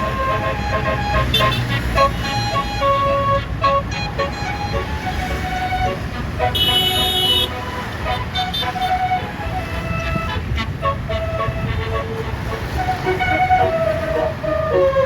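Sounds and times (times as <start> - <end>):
bus horn playing a tune: 0.0 - 15.0
engine and road rumble: 0.0 - 15.0.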